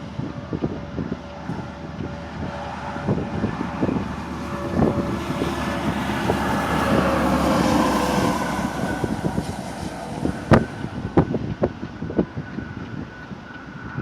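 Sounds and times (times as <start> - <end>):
truck engine and road noise: 0.0 - 14.0.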